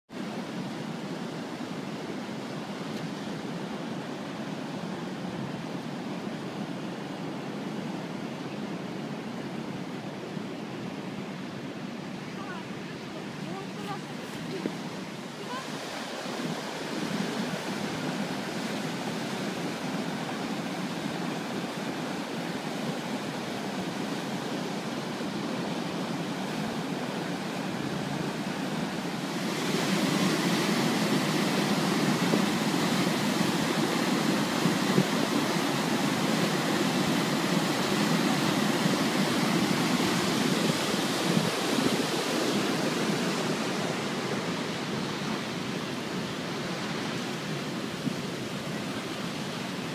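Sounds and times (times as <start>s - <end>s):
river rushing over weir: 0.1s - 49.9s.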